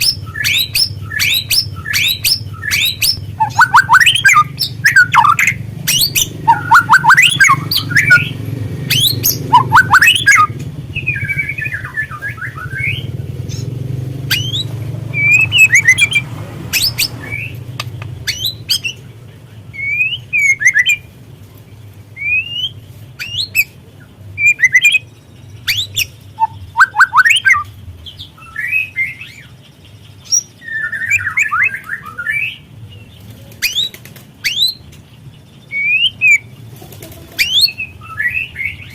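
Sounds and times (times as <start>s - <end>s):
bird whistles and chatter: 0.0s - 19.1s, 19.7s - 21.1s, 22.2s - 35.0s, 35.7s - 38.9s.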